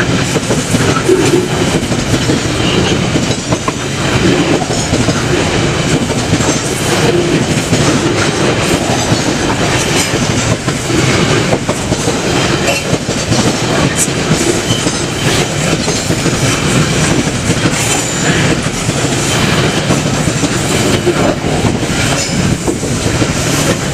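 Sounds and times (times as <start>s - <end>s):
freight train rumbling past: 0.0s - 23.9s
wheels clacking over rail joints: 0.0s - 23.9s.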